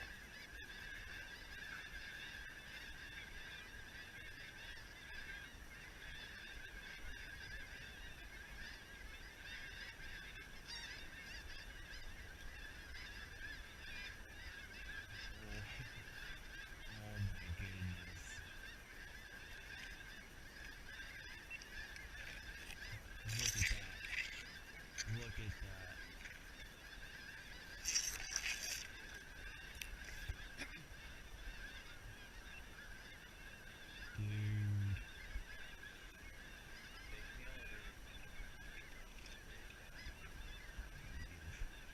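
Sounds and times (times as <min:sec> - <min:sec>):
snow geese calling: 0:00.0 - 0:41.9.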